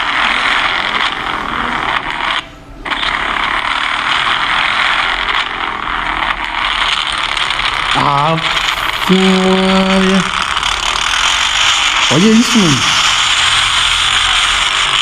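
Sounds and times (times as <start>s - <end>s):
motorcycle engine through phone speaker: 0.0s - 15.0s.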